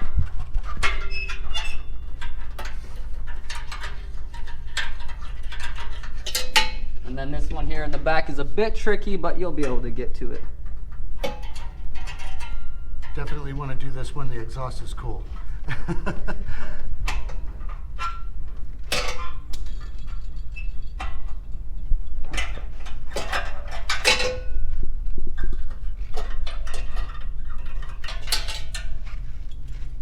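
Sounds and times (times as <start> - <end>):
metal springs clinking and scraping: 0.0 - 8.2, 9.6 - 15.5, 17.0 - 30.0
low steady hum: 0.0 - 30.0.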